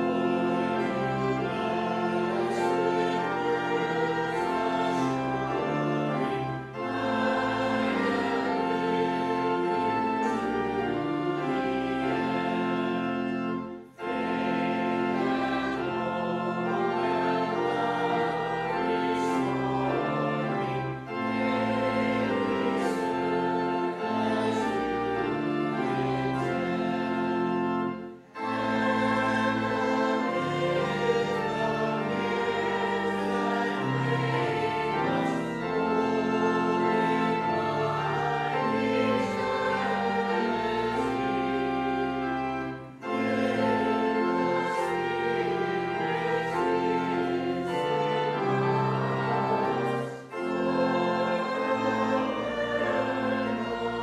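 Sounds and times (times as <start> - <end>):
congregation singing a hymn: 0.0 - 54.0
organ: 0.0 - 54.0.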